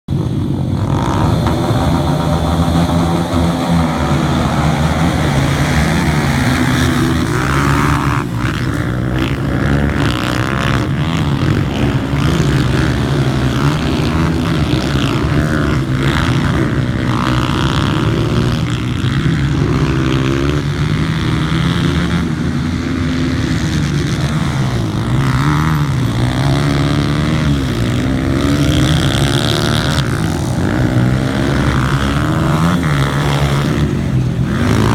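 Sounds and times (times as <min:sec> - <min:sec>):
small motorbike engine revving: 0:00.7 - 0:34.9.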